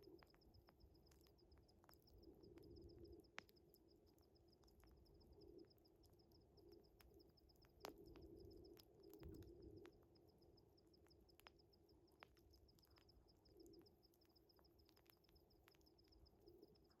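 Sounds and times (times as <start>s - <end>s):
crickets chirping: 0.0s - 17.0s
wood fire crackling and popping: 0.0s - 17.0s.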